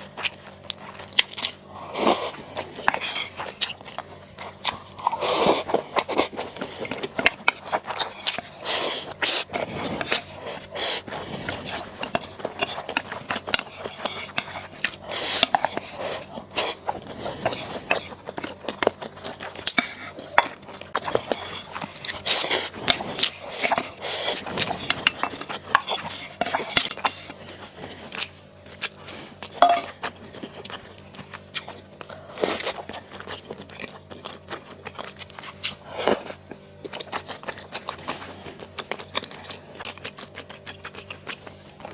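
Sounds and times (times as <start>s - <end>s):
chewing and crunching: 0.0s - 41.9s.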